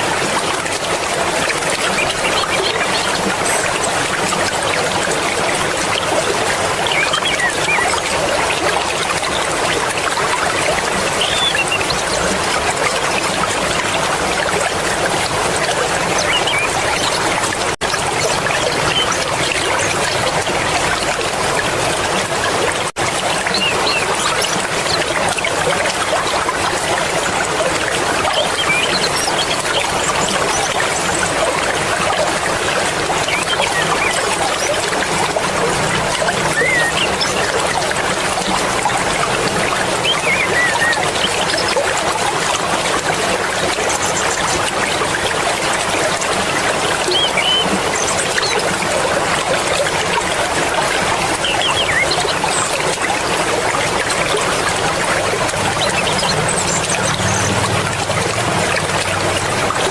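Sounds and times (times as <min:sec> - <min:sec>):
river water rushing and splashing: 0:00.0 - 0:59.9.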